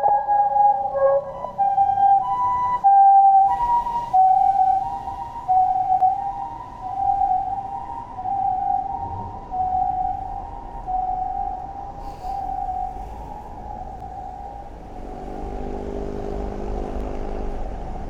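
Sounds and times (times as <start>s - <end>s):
ambulance siren two-tone: 0.0s - 15.8s.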